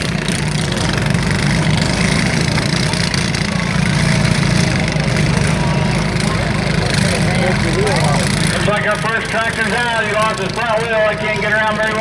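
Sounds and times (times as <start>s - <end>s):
lawn mower engines droning: 0.0s - 12.0s.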